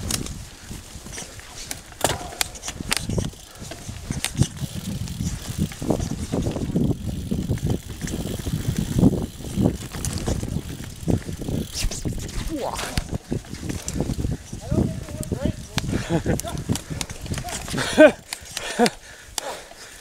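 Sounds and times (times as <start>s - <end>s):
bike tyres crunching through leaves: 0.0s - 19.2s
bike rattling over bumps: 0.0s - 20.0s.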